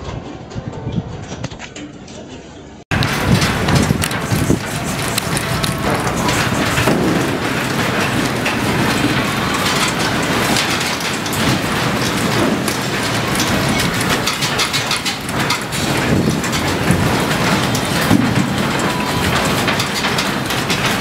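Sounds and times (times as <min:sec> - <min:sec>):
steel canopy rattling: 0:00.0 - 0:21.0.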